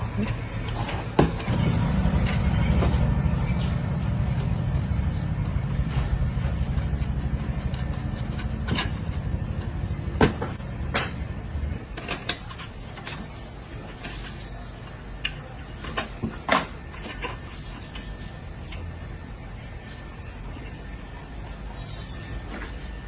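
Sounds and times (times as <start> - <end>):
low engine-like rumble: 0.0 - 23.0.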